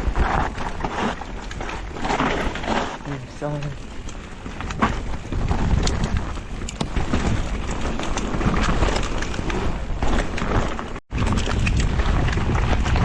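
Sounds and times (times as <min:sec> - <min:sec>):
bike rattling over bumps: 0:00.0 - 0:13.0
tyres rolling over wet dirt: 0:00.0 - 0:13.0
wind rushing over microphone: 0:00.0 - 0:13.0.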